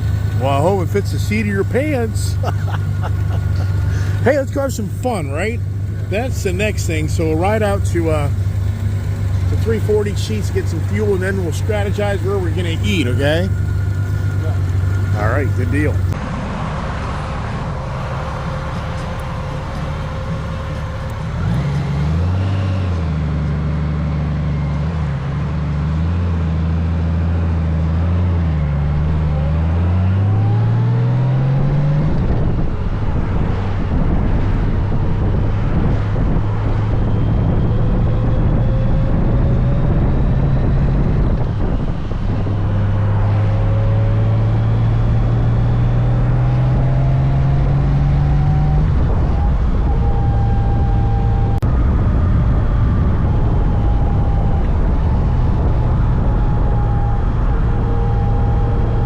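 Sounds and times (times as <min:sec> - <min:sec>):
motorcycle engine accelerating: 0:00.0 - 0:59.0
road and wind noise: 0:00.0 - 0:59.0.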